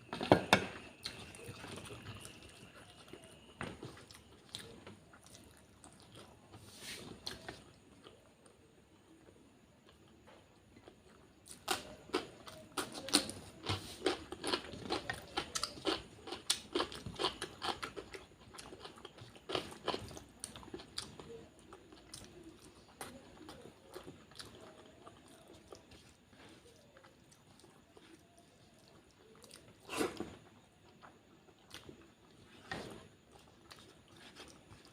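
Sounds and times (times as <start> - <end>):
person chewing food: 0.1 - 34.9.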